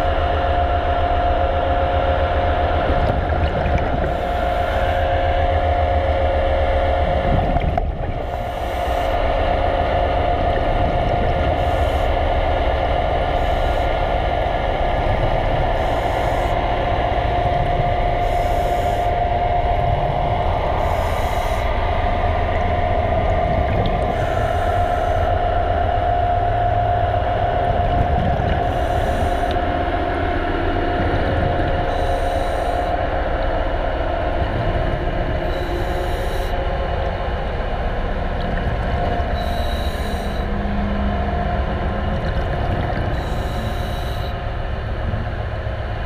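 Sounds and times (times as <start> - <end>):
steady mid-pitched tones: 0.0 - 46.0
underwater machinery drone: 0.0 - 46.0.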